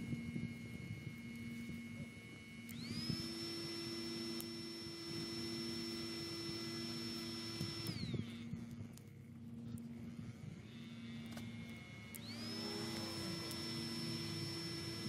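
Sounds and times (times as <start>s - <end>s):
small blower fan whine: 0.0s - 15.0s.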